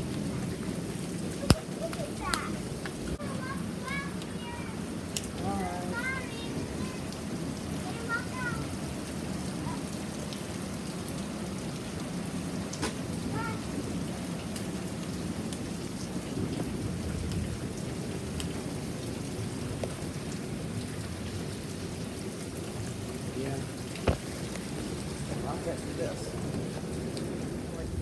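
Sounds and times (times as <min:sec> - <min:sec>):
pouring rain: 0:00.0 - 0:28.0.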